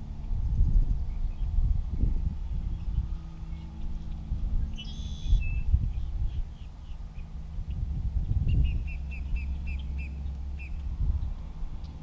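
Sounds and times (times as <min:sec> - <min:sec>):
low hum and rumble: 0:00.0 - 0:12.0
bird chirping: 0:00.2 - 0:12.0.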